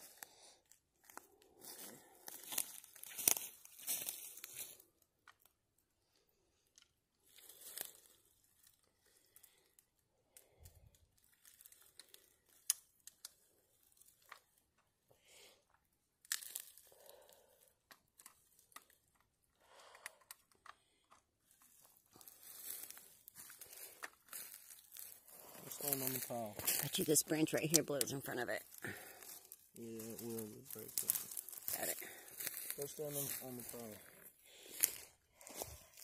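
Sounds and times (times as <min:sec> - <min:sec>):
faint rustling and crinkling: 0:00.0 - 0:36.0.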